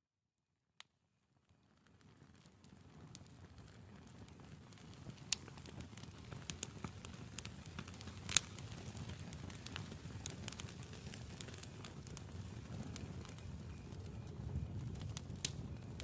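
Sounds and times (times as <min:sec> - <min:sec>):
burning wood crackling: 0:01.4 - 0:16.0.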